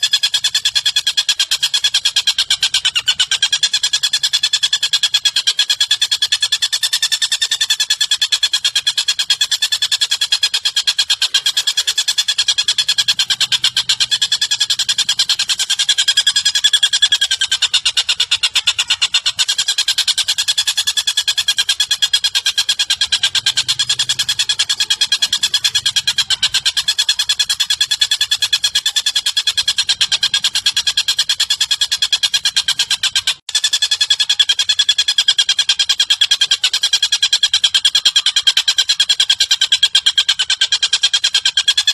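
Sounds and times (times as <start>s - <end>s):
bird chattering call: 0.0s - 41.9s.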